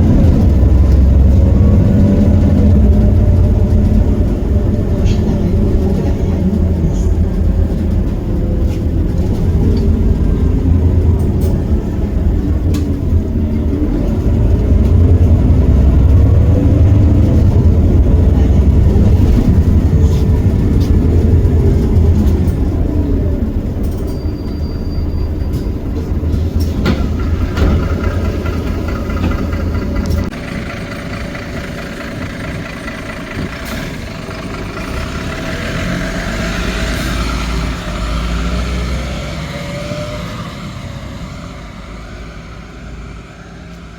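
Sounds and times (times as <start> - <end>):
bus diesel engine on board: 0.0 - 43.9.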